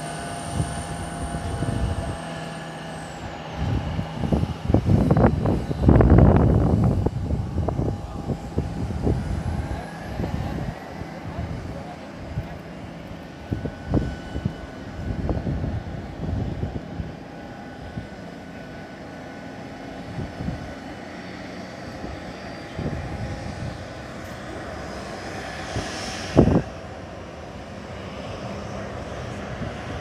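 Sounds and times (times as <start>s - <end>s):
jet airliner whine: 0.0s - 30.0s
wind buffeting microphone: 0.0s - 30.0s.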